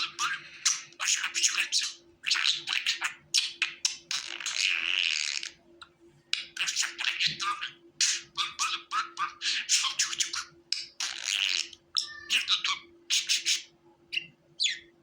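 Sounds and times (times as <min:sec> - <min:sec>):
budgerigar warbling: 0:00.0 - 0:05.6, 0:06.4 - 0:14.9
faint steady hum: 0:00.0 - 0:15.0.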